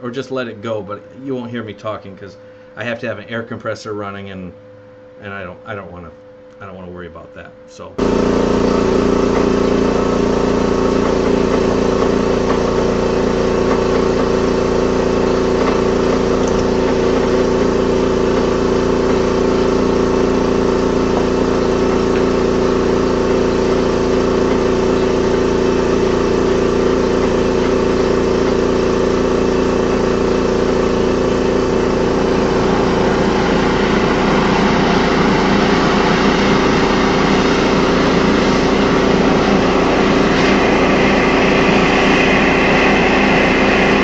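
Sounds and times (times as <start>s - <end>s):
air compressor humming: 0.0s - 6.8s, 7.5s - 44.0s.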